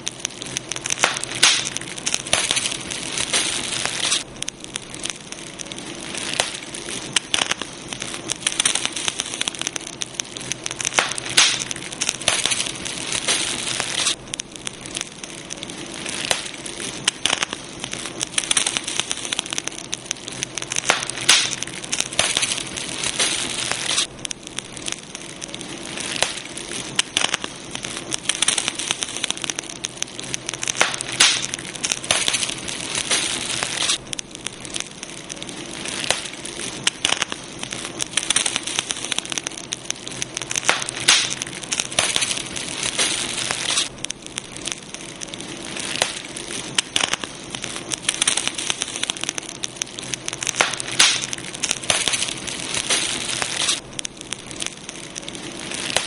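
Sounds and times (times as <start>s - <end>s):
hiss of flames: 0.0s - 56.0s
wood crackling and popping: 0.0s - 56.0s.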